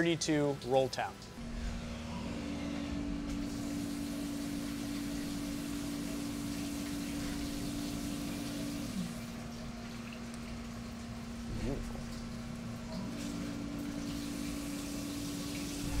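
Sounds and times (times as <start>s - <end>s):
machine whine: 1.2s - 10.1s, 11.0s - 16.0s
coolant spraying and splashing: 1.9s - 16.0s.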